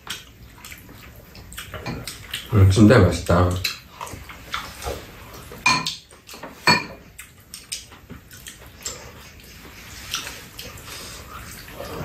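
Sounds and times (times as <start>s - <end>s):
wet slurping and chewing: 0.0s - 12.0s.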